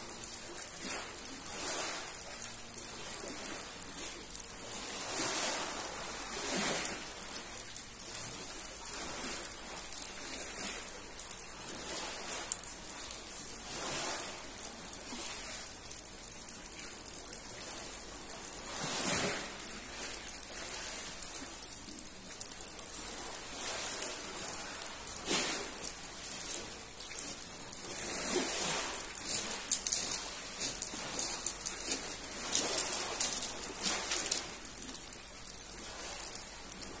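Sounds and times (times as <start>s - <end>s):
rain pattering: 0.0s - 37.0s
waves washing up pebble beach: 0.0s - 37.0s.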